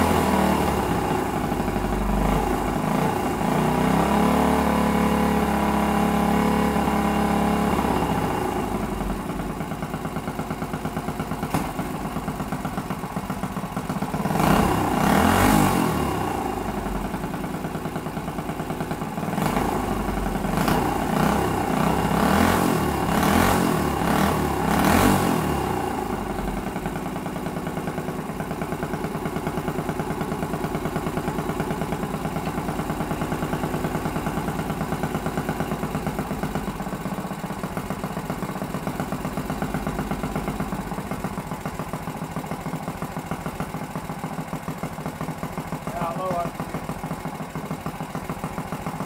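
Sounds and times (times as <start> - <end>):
small engine revving and idling: 0.0 - 49.0.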